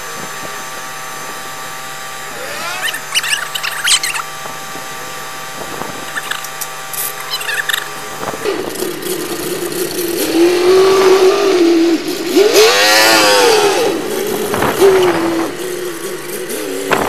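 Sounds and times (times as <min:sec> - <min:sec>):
monster truck engine running: 0:00.0 - 0:17.0.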